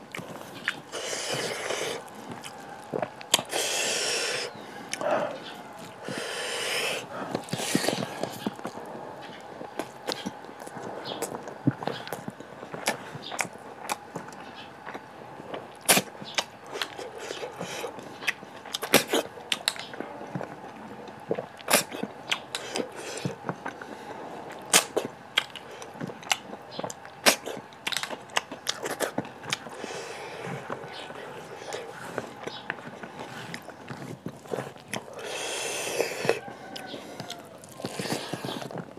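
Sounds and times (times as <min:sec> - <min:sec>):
person chewing with lip smacks: 0:00.1 - 0:23.9, 0:24.5 - 0:38.9.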